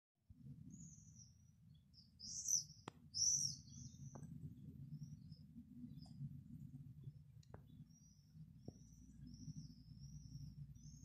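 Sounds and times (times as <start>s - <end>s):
steady low hum: 0.3s - 11.0s
small birds chirping: 0.4s - 11.0s.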